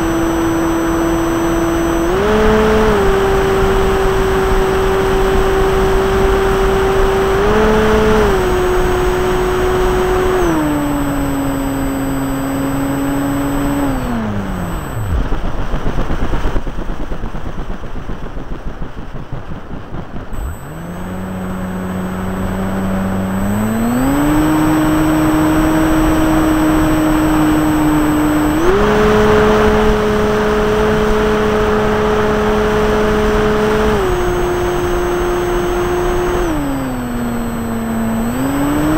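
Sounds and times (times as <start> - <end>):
electric motor whining: 0.0 - 16.4, 20.4 - 38.9.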